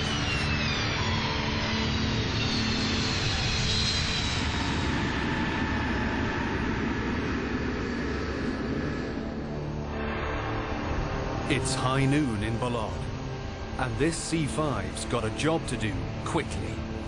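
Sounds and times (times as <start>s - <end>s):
high engine whine falling in pitch: 0.0s - 17.0s
jet engines roaring: 0.0s - 17.0s.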